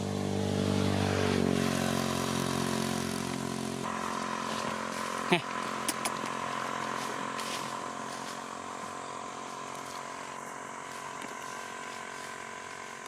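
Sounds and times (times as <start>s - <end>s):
steady engine hum: 0.0s - 13.0s.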